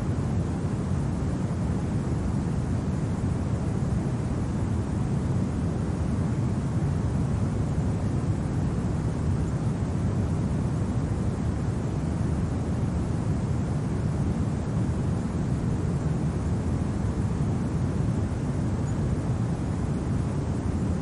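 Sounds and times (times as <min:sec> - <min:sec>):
deep steady wind: 0:00.0 - 0:21.0.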